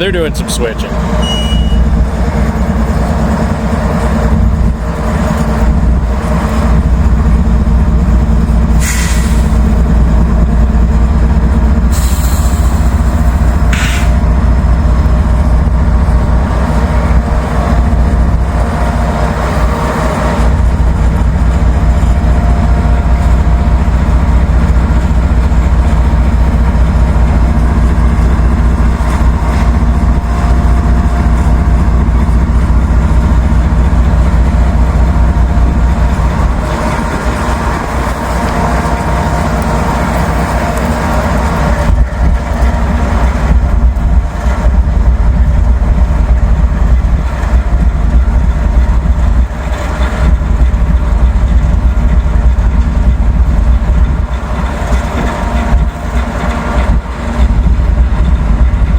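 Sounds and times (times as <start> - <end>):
diesel locomotive engine running: 0.0 - 58.9.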